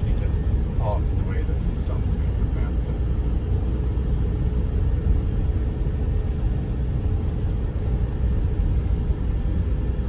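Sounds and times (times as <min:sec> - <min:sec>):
engine and road noise rumble: 0:00.0 - 0:10.0.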